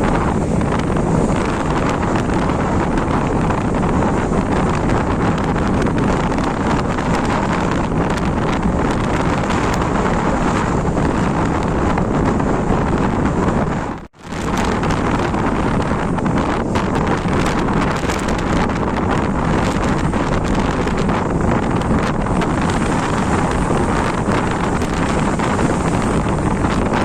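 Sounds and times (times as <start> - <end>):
airliner cabin roar: 0.0 - 27.0.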